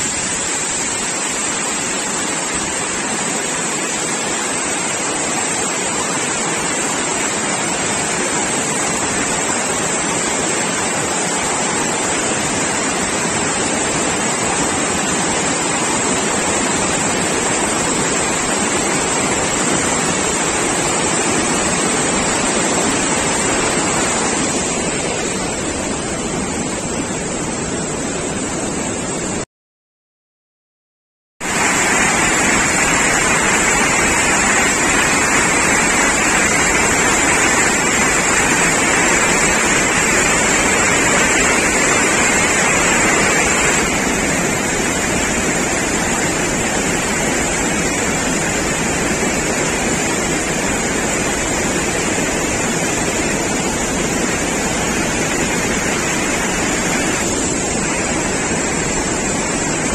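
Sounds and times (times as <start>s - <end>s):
floodwater rushing through gate: 0.0s - 27.7s, 31.4s - 59.9s.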